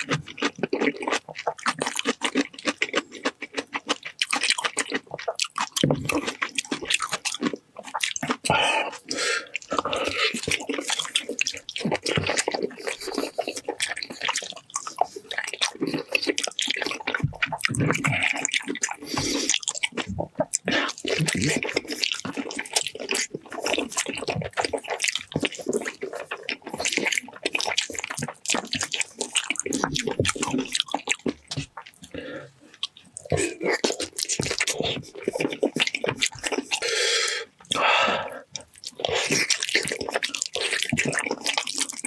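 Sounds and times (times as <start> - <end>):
wet chewing and smacking: 0.0 - 42.0.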